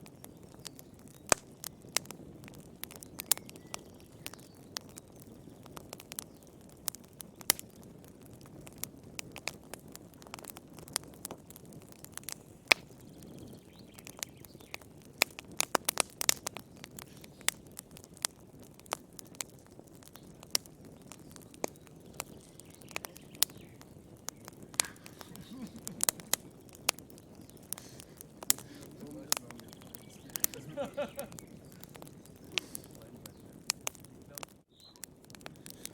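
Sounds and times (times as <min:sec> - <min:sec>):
soft hiss of flame: 0:00.0 - 0:35.9
wood fire crackling and popping: 0:00.0 - 0:35.9.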